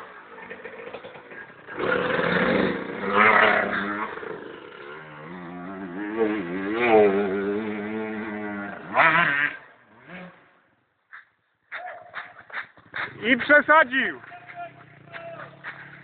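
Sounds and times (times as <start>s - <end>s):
motorcycle engine revving: 0.0s - 10.9s, 12.3s - 16.0s.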